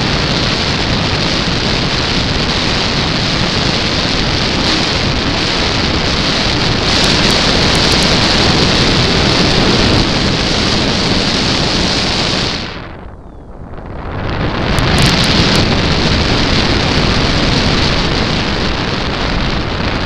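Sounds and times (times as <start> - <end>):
wind and propeller noise: 0.0 - 20.0.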